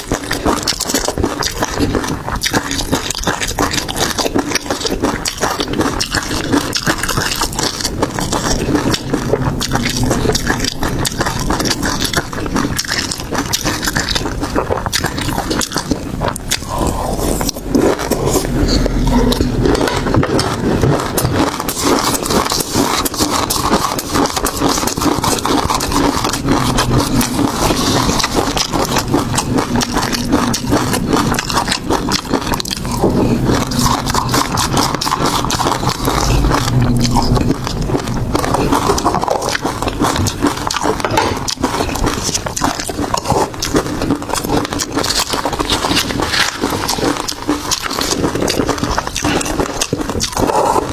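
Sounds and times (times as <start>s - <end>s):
chewing and crunching food: 0.0s - 50.9s
wet mouth noises: 0.0s - 50.9s.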